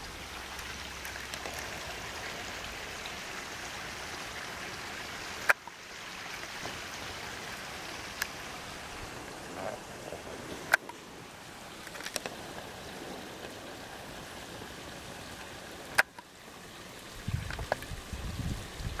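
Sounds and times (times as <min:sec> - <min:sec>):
water rushing in a stream: 0:00.0 - 0:19.0.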